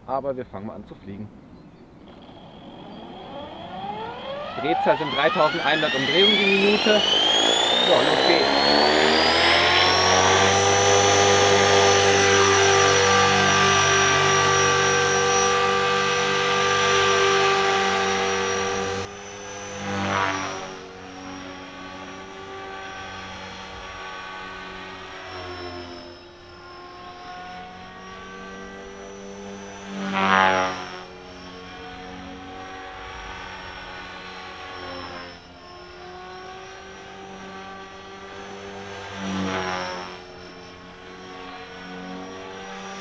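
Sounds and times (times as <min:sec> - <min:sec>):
rc helicopter rotor whine: 0:01.5 - 0:43.0.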